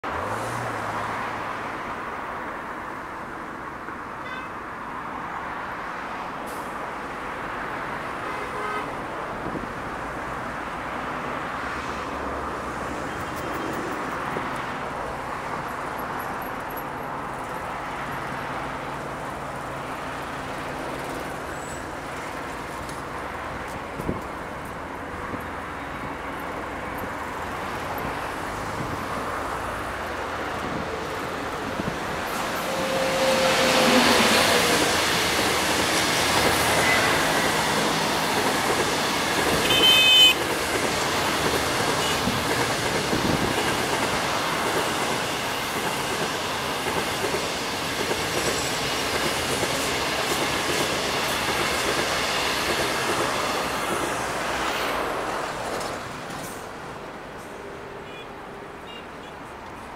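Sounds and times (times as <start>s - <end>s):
traffic noise: 0.0s - 59.9s.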